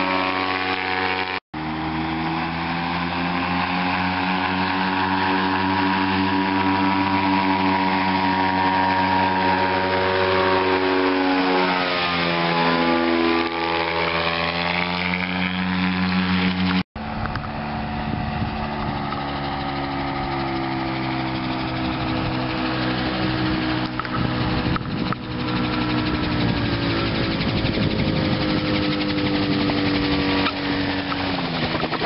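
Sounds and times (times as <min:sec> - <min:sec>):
propeller engine droning: 0:00.0 - 0:32.0.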